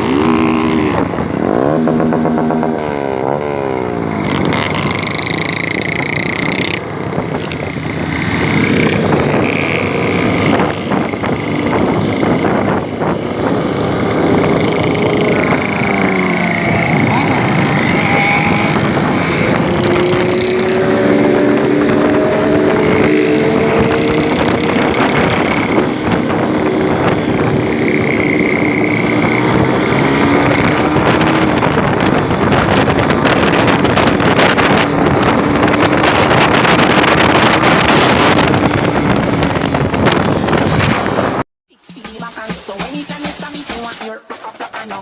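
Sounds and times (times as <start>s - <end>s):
motorcycle engine running: 0.0s - 41.4s
wind buffeting microphone: 0.0s - 41.4s.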